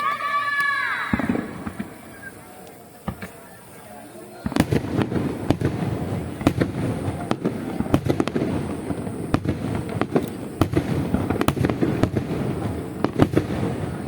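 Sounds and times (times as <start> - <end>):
fireworks bangs and cracks: 0.0 - 3.5, 4.4 - 14.0.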